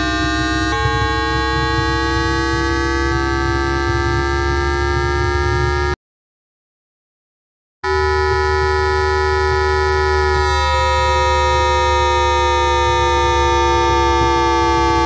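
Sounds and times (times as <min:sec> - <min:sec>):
electronic tones sliding down: 0:00.0 - 0:06.0, 0:07.9 - 0:15.0
low hum: 0:00.0 - 0:06.0, 0:07.9 - 0:15.0.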